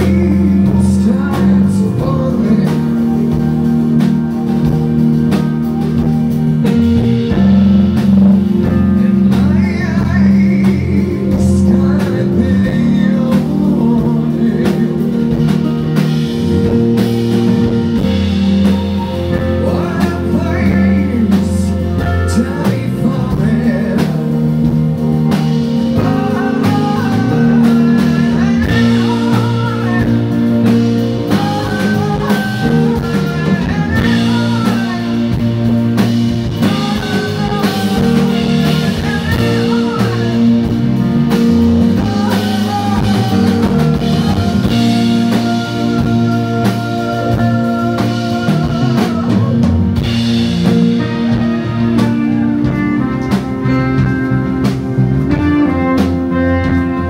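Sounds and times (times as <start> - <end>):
drum kit: 0.0 - 57.0
guitar: 0.0 - 57.0.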